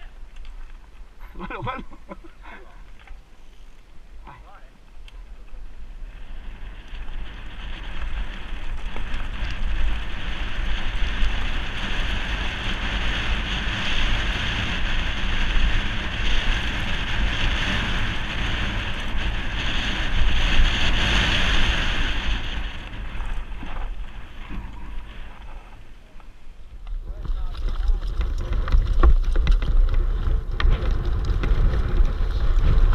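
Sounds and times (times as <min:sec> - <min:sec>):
low steady rumble: 0:00.0 - 0:32.9
wind buffeting microphone: 0:03.9 - 0:32.9.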